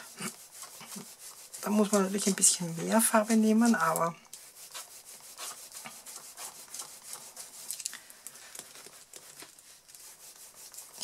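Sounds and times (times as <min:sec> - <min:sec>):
foam roller rubbing: 0:00.0 - 0:11.0.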